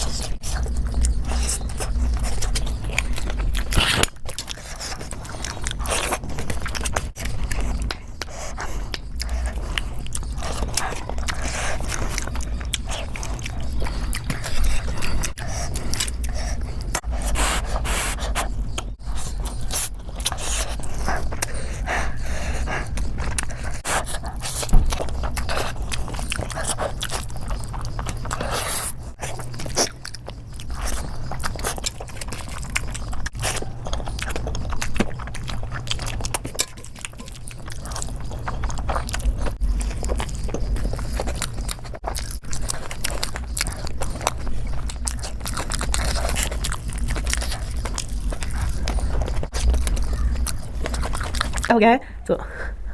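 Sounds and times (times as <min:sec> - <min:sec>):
biting and chewing: 0:00.0 - 0:52.0
steady low hum: 0:00.0 - 0:52.9.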